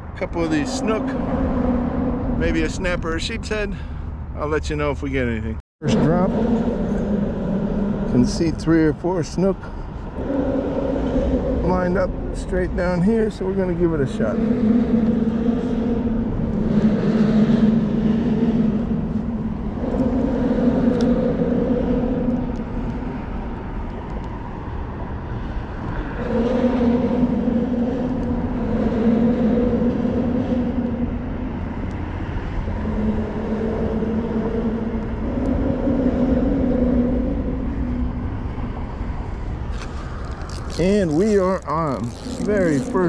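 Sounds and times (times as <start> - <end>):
passing traffic engine drone: 0.0 - 43.0.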